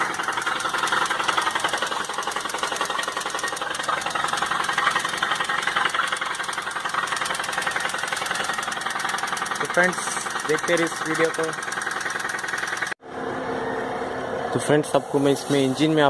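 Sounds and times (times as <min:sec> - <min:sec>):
rough engine with rapid knocking: 0:00.0 - 0:13.0.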